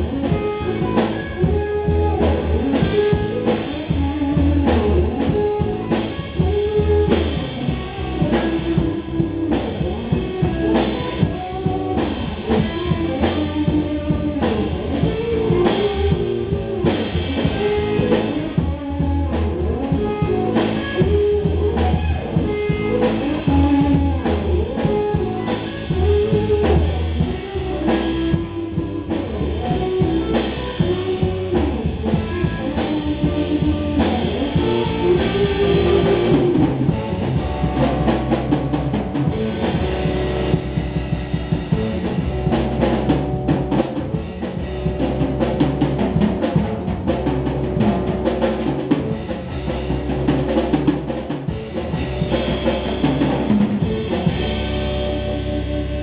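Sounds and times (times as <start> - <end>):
bass guitar: 0.0 - 56.0
drum kit: 0.0 - 56.0
electric guitar: 0.0 - 56.0.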